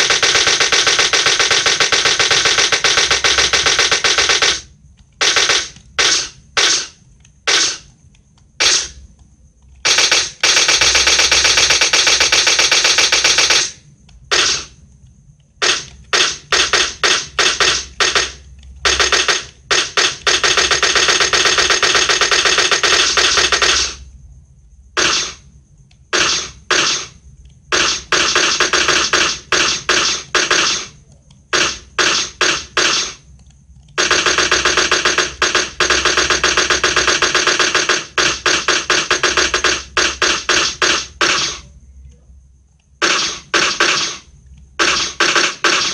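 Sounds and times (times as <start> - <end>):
machine gun firing: 0.0 - 7.9, 8.6 - 9.0, 9.8 - 14.8, 15.6 - 24.1, 25.0 - 25.4, 26.1 - 33.2, 34.0 - 41.6, 43.0 - 45.9.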